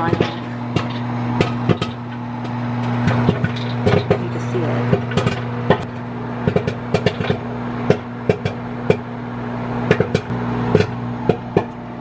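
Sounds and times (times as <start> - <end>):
microwave oven humming: 0.0 - 12.0
popcorn popping: 0.0 - 12.0.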